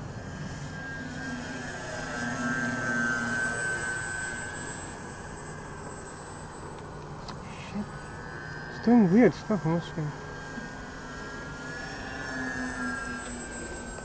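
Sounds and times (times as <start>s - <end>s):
model plane electric motors whining: 0.0s - 14.0s.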